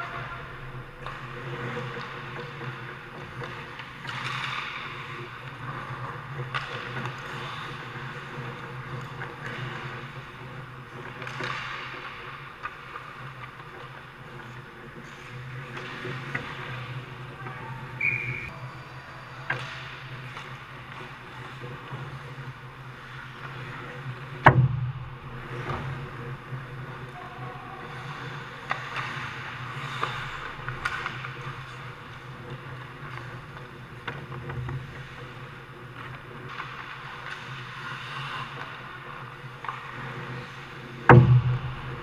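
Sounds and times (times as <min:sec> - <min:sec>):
low arena hum: 0:00.0 - 0:42.0
skates scraping ice: 0:00.0 - 0:42.0
sticks and puck clacking: 0:00.0 - 0:42.0.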